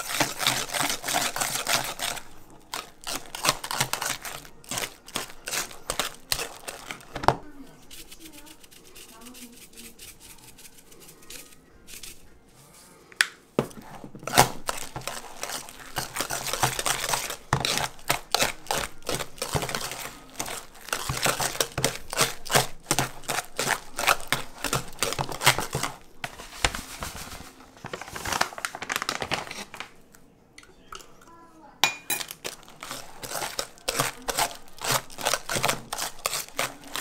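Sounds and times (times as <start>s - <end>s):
whisk beating mashed potatoes: 0.0s - 12.5s, 13.6s - 28.6s, 32.2s - 37.0s.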